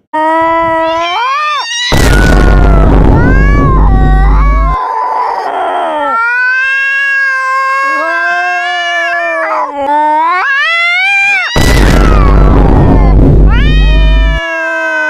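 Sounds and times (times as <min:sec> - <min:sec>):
animal howling: 0:00.6 - 0:15.0.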